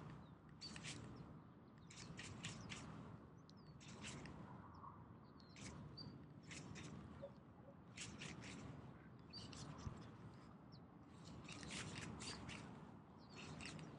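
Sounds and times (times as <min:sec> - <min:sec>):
faint bird chirps: 0:00.2 - 0:13.9.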